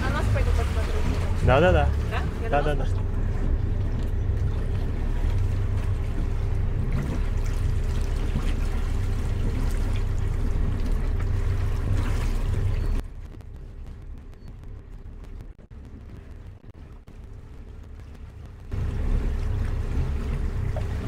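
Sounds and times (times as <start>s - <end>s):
boat diesel engine rumbling: 0.0s - 21.0s
water along the hull: 0.0s - 21.0s.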